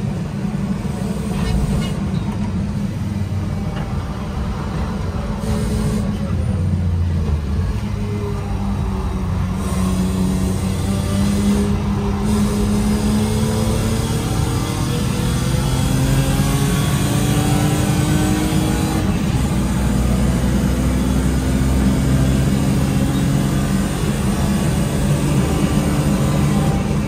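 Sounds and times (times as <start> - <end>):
car engine under load: 0.0 - 27.0.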